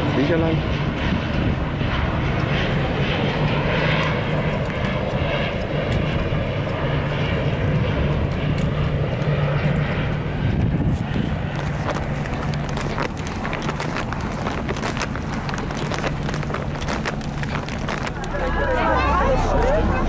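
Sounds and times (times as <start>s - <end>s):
airplane flying low overhead: 0.0s - 20.0s.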